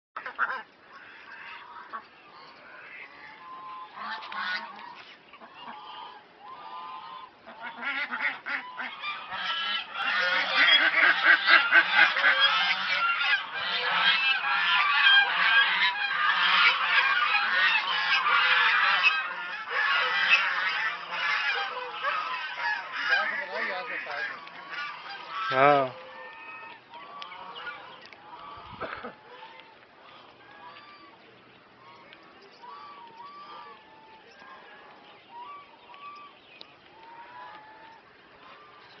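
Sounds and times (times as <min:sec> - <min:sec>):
waterfowl calling: 0:00.2 - 0:39.0.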